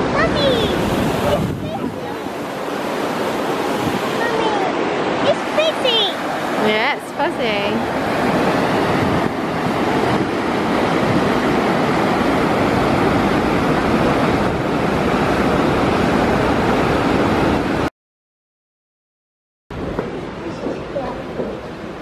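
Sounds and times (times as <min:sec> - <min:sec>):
rushing water: 0:00.0 - 0:17.9, 0:19.7 - 0:22.0.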